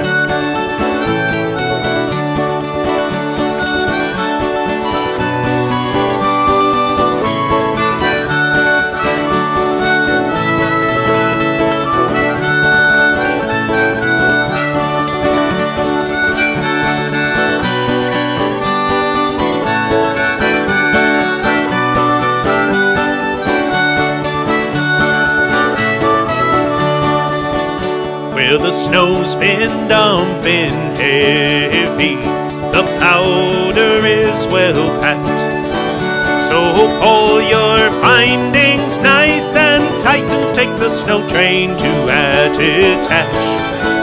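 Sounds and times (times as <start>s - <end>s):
instrumental song melody: 0.0s - 44.0s.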